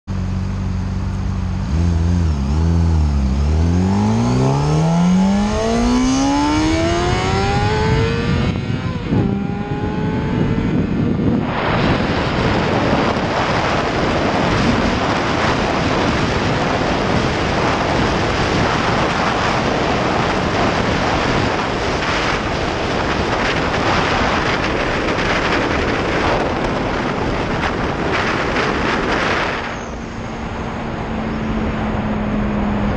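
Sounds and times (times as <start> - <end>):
motorcycle engine accelerating: 0.1 - 32.9
wind noise at high speed: 0.1 - 32.9.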